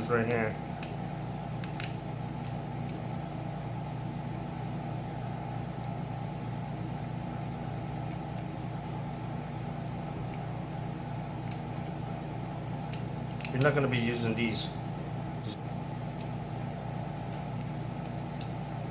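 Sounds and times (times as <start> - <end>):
air conditioner humming: 0.0 - 18.9.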